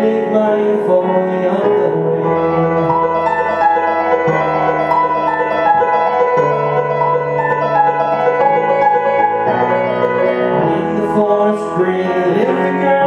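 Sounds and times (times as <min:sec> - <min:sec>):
piano chords and melody: 0:00.0 - 0:13.0.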